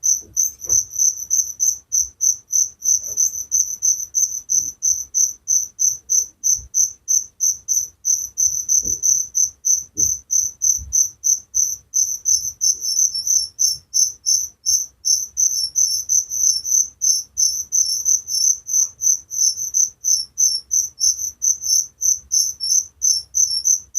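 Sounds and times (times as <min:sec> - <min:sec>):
cricket chirping: 0:00.0 - 0:23.9.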